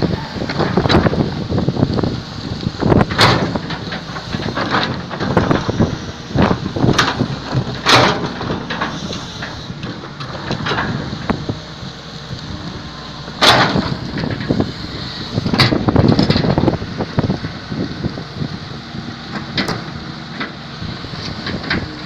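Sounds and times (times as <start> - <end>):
excavator rumble: 0.0 - 22.0.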